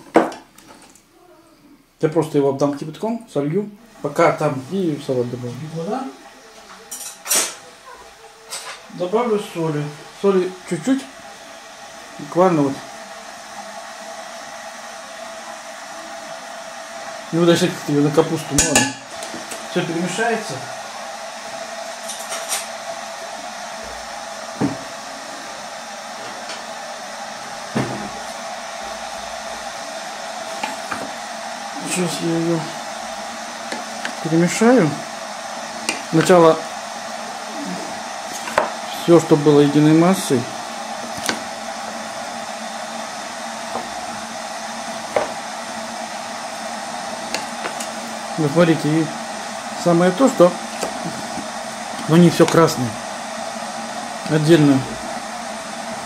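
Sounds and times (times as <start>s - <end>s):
fan-like hum: 0.0s - 56.0s
airy whir: 8.8s - 56.0s.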